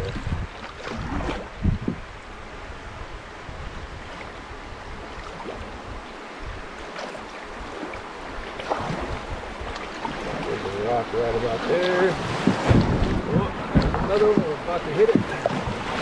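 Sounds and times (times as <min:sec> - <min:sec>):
light water splashes: 0:00.0 - 0:02.4, 0:03.6 - 0:16.0.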